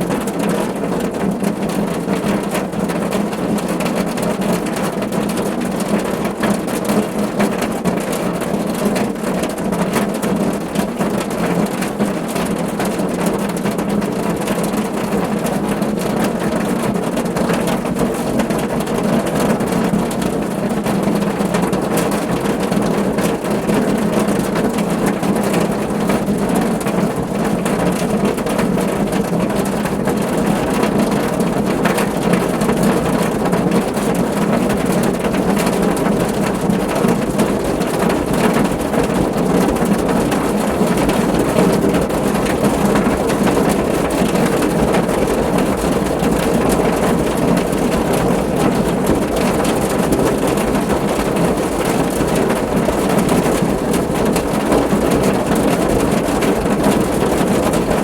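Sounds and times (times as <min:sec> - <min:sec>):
rain on a car roof: 0:00.0 - 0:58.0.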